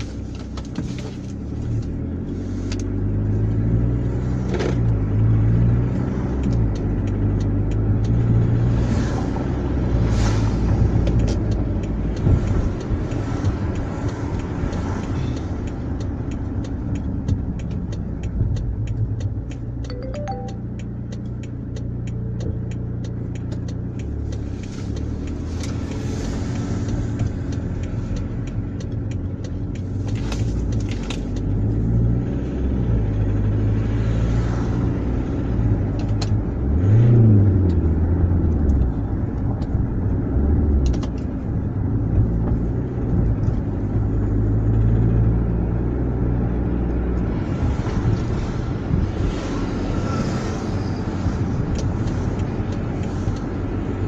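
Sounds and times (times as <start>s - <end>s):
diesel engine from inside car: 0.0s - 54.0s.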